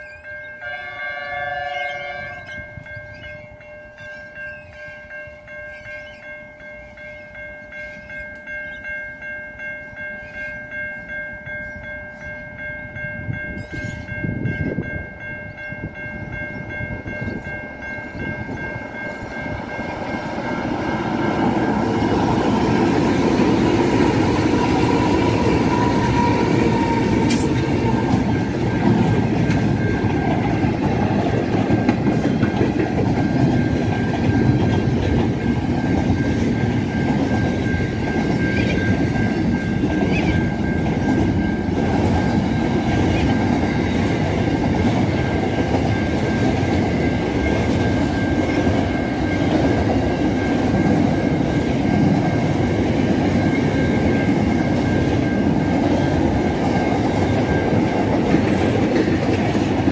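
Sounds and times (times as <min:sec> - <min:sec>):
steady high-pitched tone: 0:00.0 - 0:59.3
freight train rolling past: 0:00.0 - 0:59.9
wheels clickety-clack on rails: 0:01.7 - 0:59.9.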